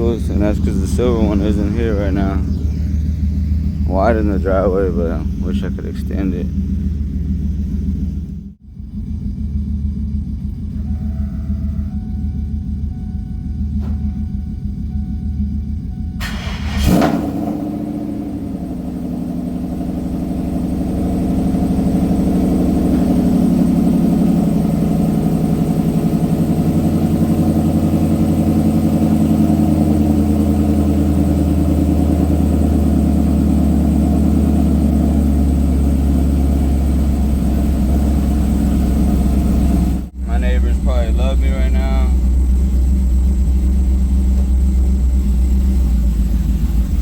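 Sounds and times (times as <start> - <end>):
pickup truck engine idling: 0.0 - 47.0.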